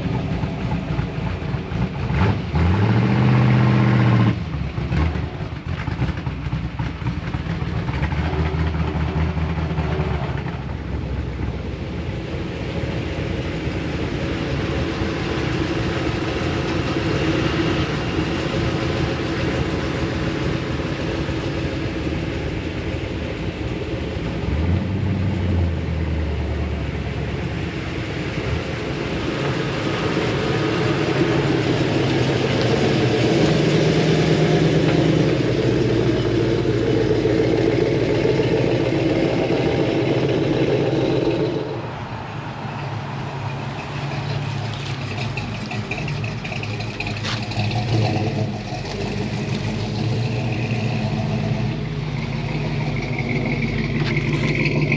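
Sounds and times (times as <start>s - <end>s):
deep engine: 0.0s - 54.9s
pickup truck engines running: 0.0s - 54.9s.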